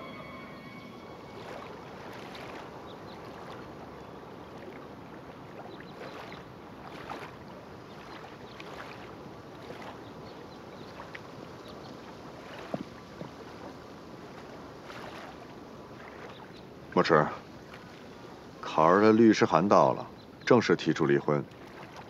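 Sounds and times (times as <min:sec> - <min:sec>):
lapping lake water: 0:00.0 - 0:22.0.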